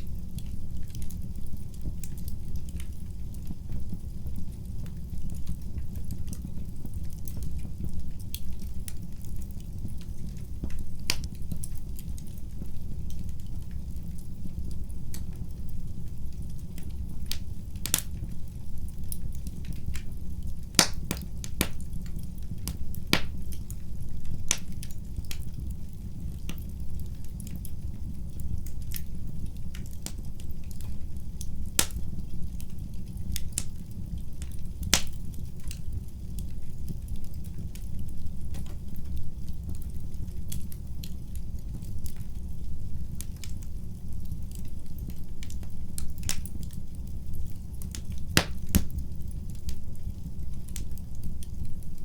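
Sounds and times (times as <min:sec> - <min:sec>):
fireplace fire crackling: 0:00.0 - 0:52.0.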